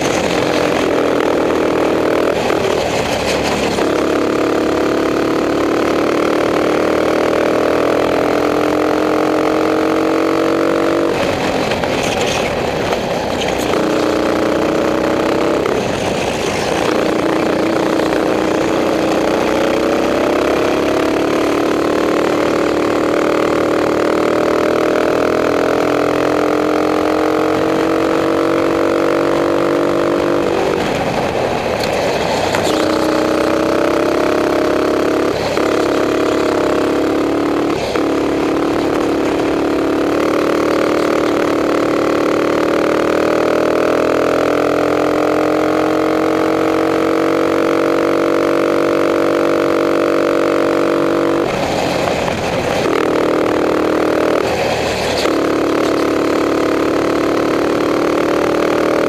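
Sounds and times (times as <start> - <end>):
racing kart engine revving: 0.0 - 59.0.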